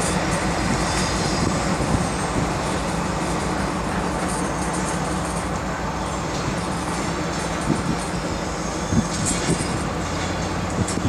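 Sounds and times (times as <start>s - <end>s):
locomotive engine hum: 0.0s - 11.0s
rolling wheel noise: 0.0s - 11.0s.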